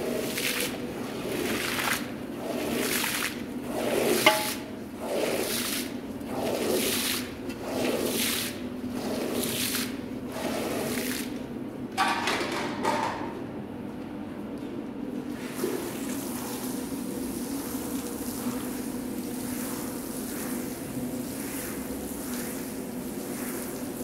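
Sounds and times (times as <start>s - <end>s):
wet rug being washed: 0.0s - 11.4s, 15.2s - 24.0s.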